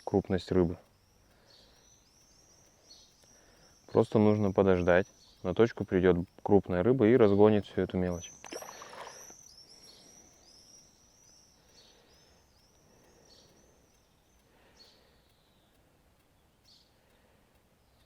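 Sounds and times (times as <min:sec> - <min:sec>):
faint songbird chirping: 0:00.0 - 0:18.0.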